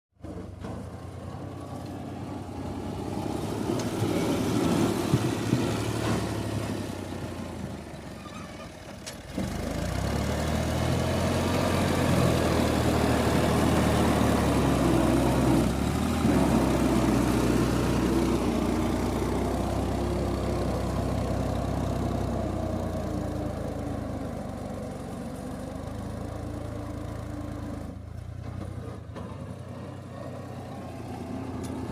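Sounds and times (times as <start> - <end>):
tractor diesel engine under load: 0.2 - 31.9.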